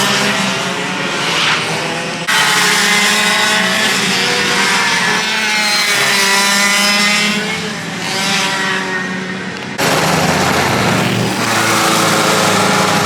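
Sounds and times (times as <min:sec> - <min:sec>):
racing kart engines passing: 0:00.0 - 0:13.0.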